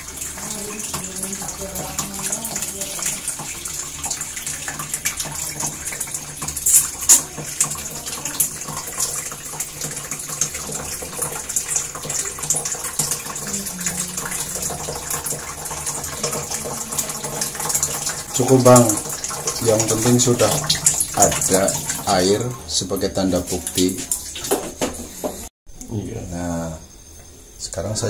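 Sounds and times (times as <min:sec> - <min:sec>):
water splashing into plastic tub: 0:00.0 - 0:25.4.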